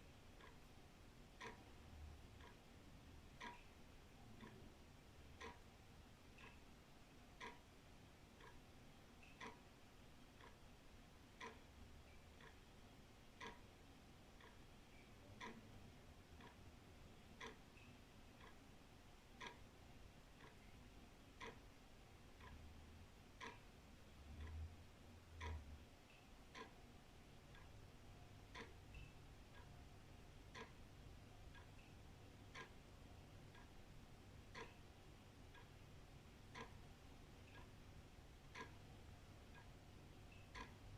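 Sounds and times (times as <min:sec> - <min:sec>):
wall clock ticking: 0:00.0 - 0:40.9.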